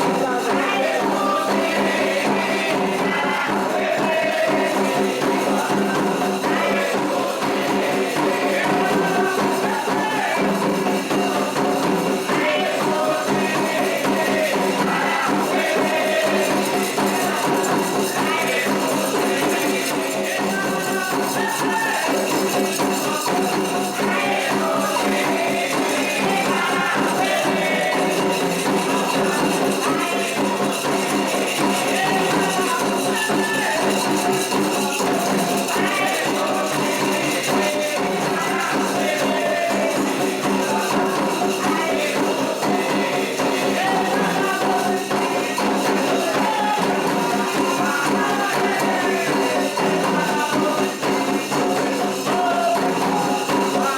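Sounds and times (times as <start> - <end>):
chanted singing: 0.0 - 53.9
hand drums: 0.0 - 53.9
rattling percussion: 0.0 - 53.9.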